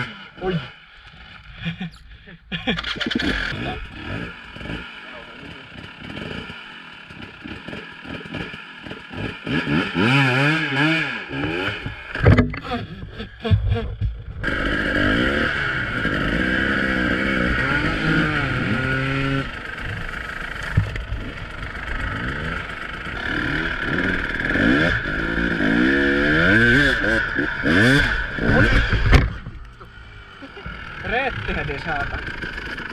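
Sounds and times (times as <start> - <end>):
dirt bike engine revving: 0.0 - 1.9, 2.5 - 32.9.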